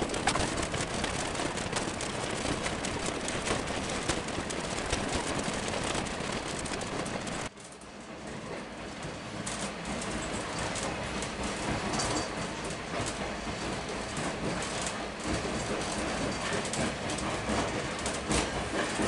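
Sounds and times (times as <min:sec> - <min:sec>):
train wheel and rail noise: 0:00.0 - 0:19.0.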